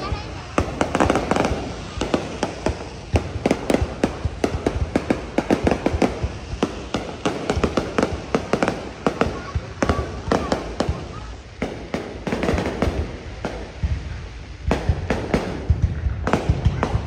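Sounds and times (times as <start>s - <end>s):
fireworks cracks and bangs: 0.0s - 17.0s
low rumble of explosions: 0.0s - 17.0s.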